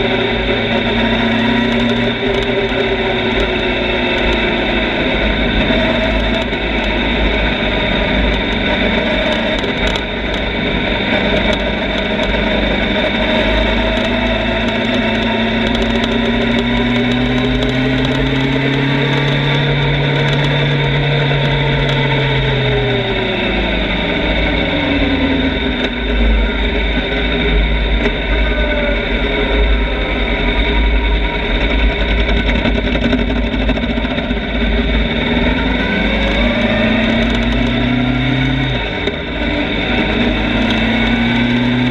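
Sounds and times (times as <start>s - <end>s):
motorcycle engine revving: 0.0s - 41.9s
wind rumble on microphone: 0.0s - 41.9s.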